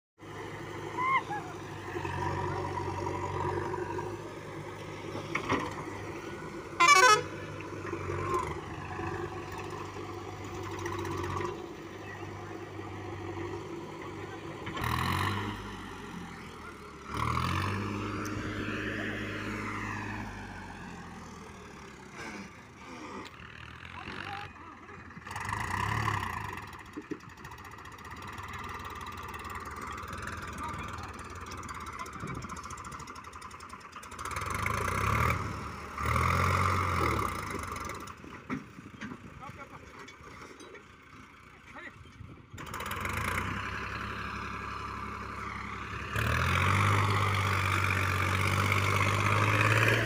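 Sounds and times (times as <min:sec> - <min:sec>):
diesel engines running: 0:00.2 - 0:50.0.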